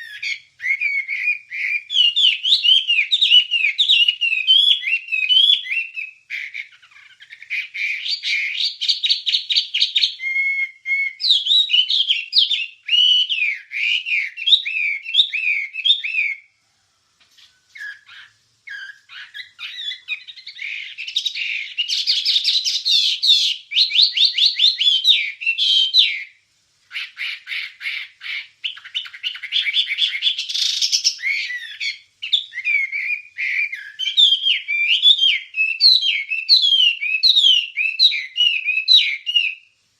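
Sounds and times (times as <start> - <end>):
songbird singing chattering song: 0.0 - 39.9.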